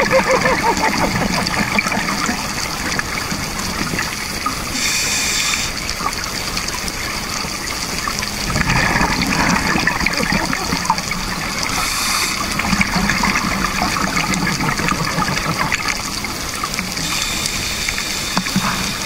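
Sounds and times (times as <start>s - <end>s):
underwater bubbles gurgling: 0.0s - 19.0s.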